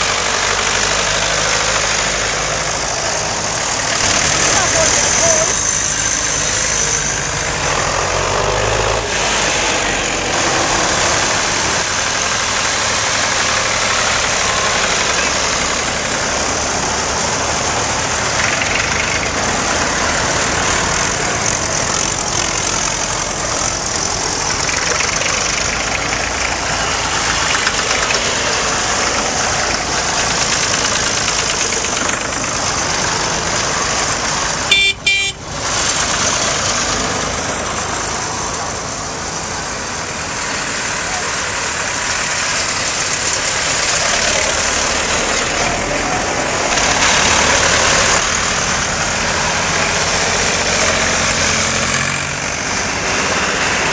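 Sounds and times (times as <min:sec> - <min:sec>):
tractor engines running: 0:00.0 - 0:53.9.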